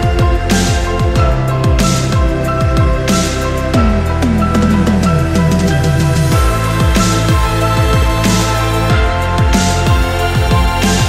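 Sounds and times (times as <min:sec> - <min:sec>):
electronic music with sliding bass: 0:00.0 - 0:11.0.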